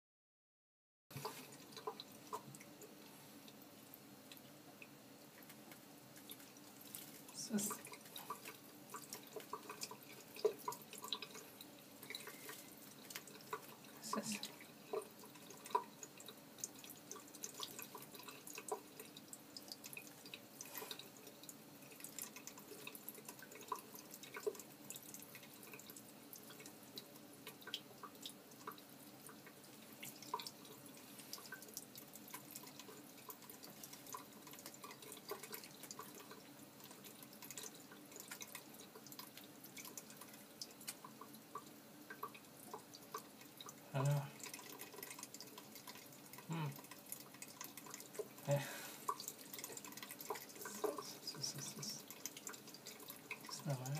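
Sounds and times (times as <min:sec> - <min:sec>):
tap water splashing: 0:01.1 - 0:02.9, 0:04.3 - 0:43.8, 0:49.0 - 0:51.2
water dripping: 0:01.1 - 0:53.9.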